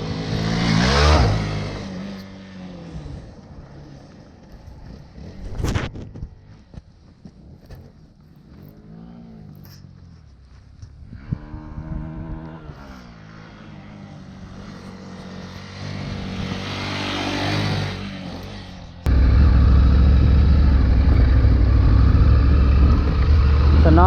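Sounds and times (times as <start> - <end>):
motorcycle engine revving: 0.0 - 6.5, 11.1 - 24.0.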